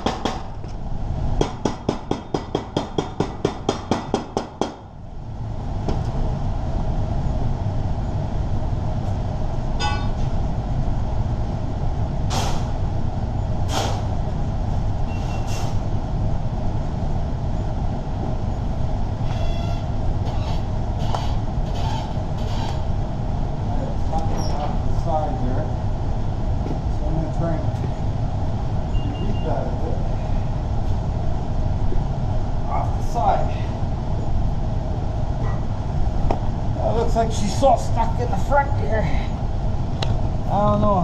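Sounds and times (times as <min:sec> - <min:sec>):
machine rumble: 0:00.0 - 0:41.0.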